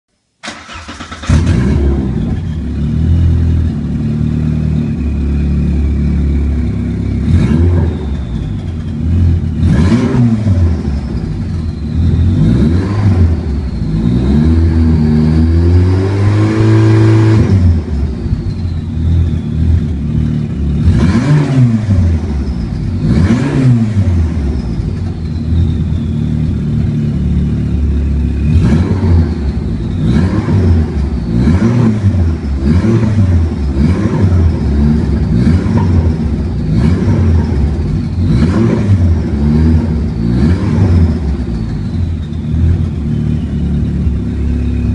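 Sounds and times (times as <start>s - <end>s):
car engine revving in blips: 0.4s - 44.9s.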